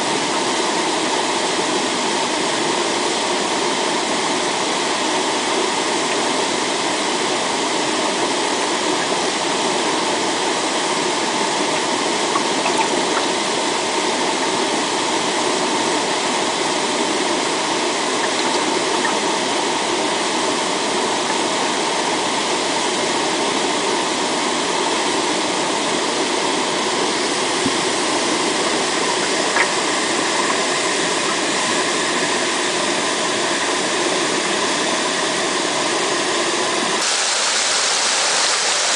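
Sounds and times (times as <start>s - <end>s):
waterfall rushing: 5.4s - 35.2s, 37.0s - 38.9s.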